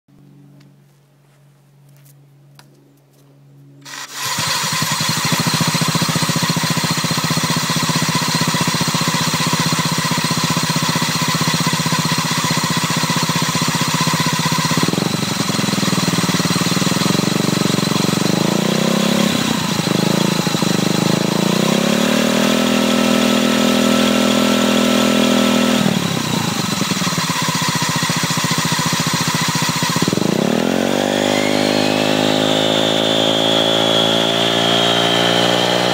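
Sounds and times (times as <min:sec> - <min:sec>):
abnormal variator noise: 0:03.7 - 0:35.9
scooter engine starting and revving: 0:03.8 - 0:35.9.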